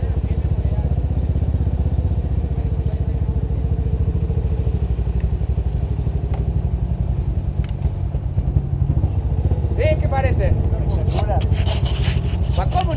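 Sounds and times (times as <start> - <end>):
atv engine running: 0.0 - 12.9.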